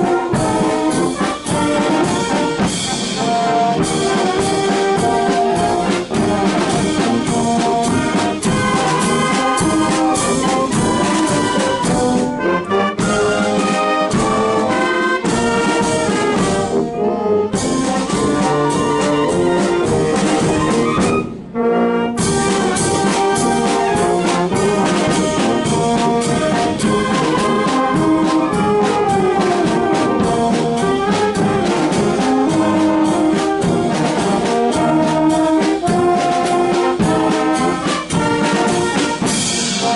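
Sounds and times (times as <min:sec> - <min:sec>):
regular drum beat: 0:00.0 - 0:39.9
wind band brass playing: 0:00.0 - 0:39.9.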